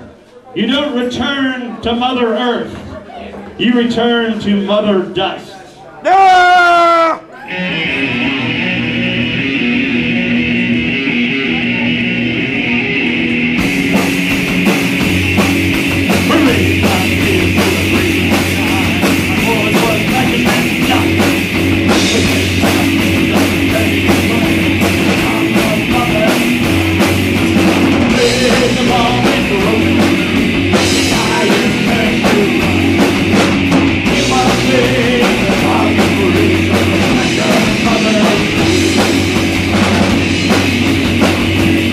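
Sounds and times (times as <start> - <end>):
sustained electric guitar: 7.3 - 41.9
heavy rock band playing: 7.4 - 41.9
drum kit beat: 7.6 - 41.9.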